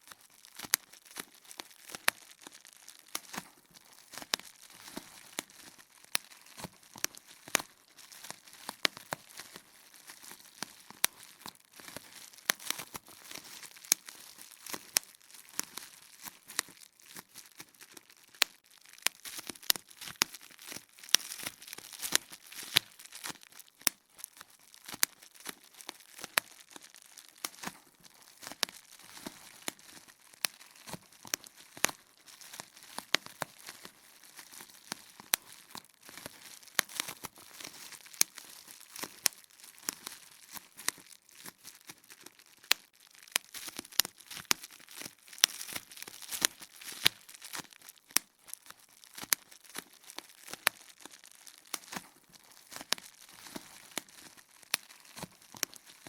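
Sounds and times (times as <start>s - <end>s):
bubble wrap popping: 0.0s - 56.0s
plastic sheet crinkling: 0.0s - 56.0s.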